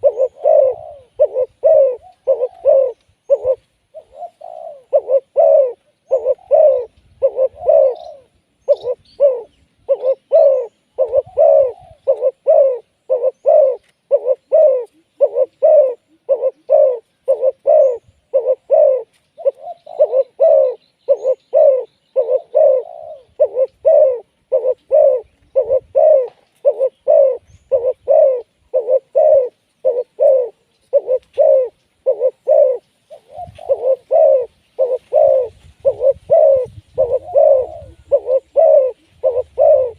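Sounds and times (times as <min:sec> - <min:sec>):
dove cooing: 0:00.0 - 0:39.9
faint bird chirps: 0:00.0 - 0:39.9.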